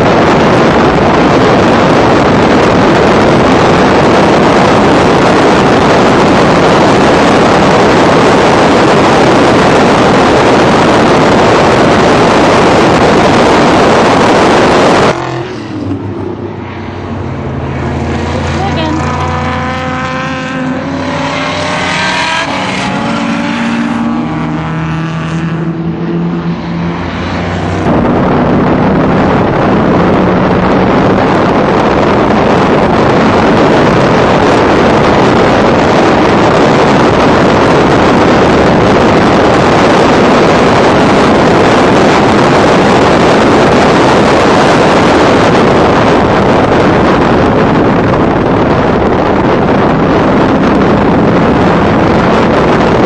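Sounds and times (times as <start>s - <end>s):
wind on microphone: 0.0s - 53.0s.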